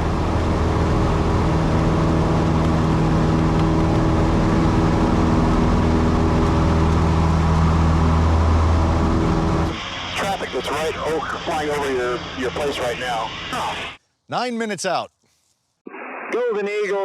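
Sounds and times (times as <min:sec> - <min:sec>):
propeller plane droning: 0:00.0 - 0:14.0.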